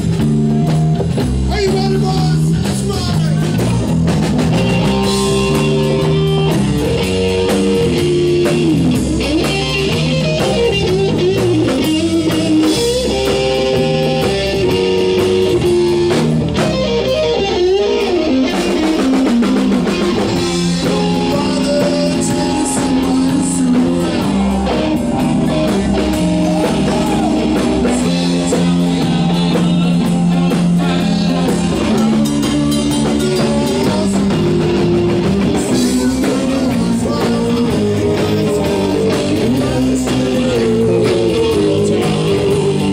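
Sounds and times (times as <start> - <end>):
electric guitar lead: 0.0 - 42.9
live rock band playing: 0.0 - 42.9.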